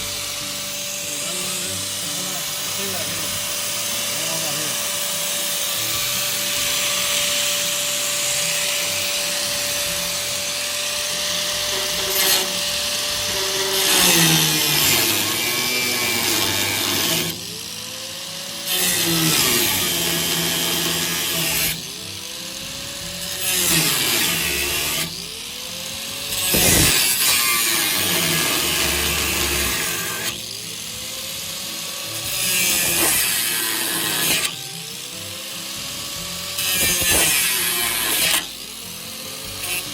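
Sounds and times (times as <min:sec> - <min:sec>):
power tool cutting metal: 0:00.0 - 0:39.9.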